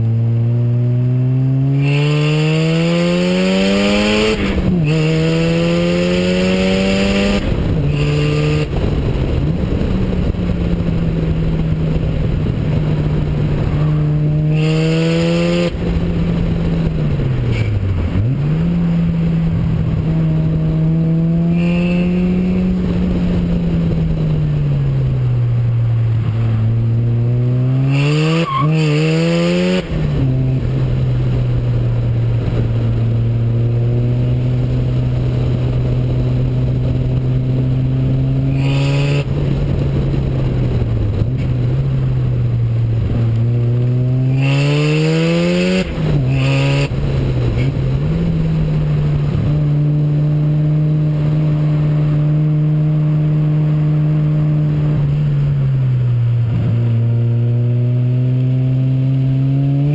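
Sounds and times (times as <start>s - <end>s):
rotary engine under hard driving: 0.0s - 59.9s
wind noise: 0.0s - 59.9s.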